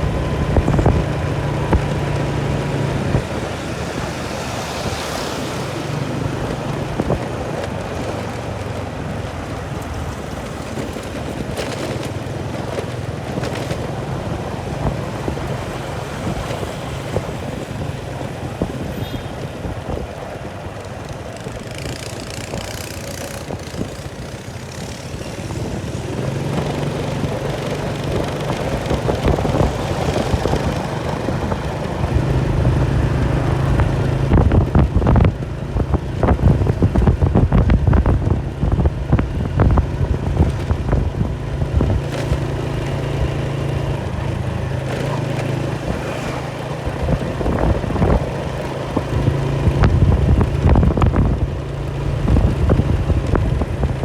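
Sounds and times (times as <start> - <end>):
engine running: 0.0 - 54.0
wind buffeting microphone: 0.0 - 54.0.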